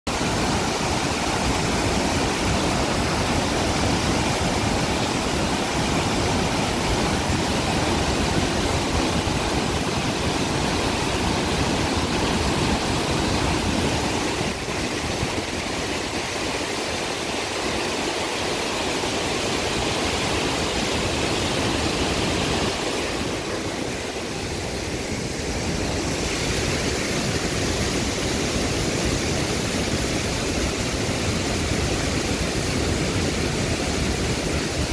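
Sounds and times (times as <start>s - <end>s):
floodwater rushing through spillway: 0.1s - 34.9s.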